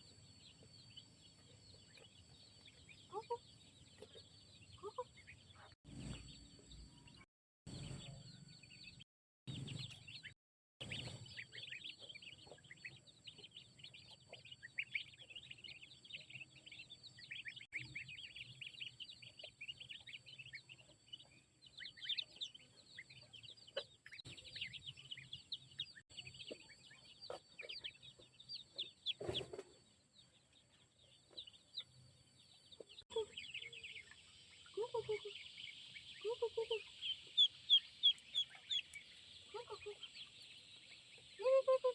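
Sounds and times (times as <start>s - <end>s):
chickens chirping and clucking: 0.0s - 41.9s.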